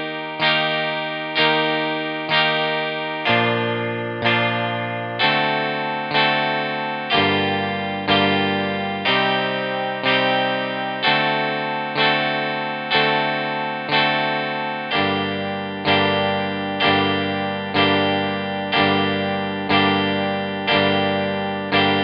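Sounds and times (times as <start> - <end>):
electric guitar strumming chords: 0.0 - 22.0.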